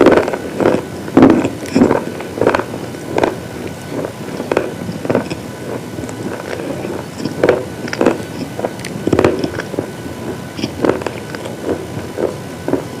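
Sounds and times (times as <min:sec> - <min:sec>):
slate crunching as chewed: 0:00.0 - 0:13.0
steady hiss: 0:00.0 - 0:13.0.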